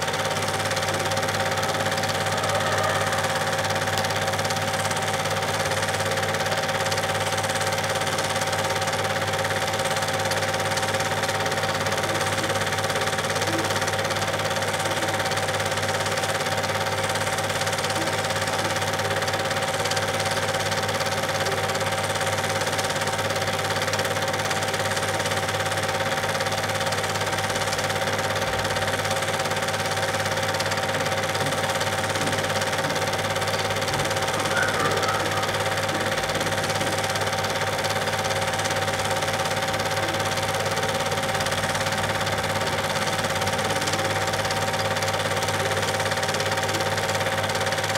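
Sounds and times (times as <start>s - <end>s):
film projector whirring: 0.0s - 47.9s.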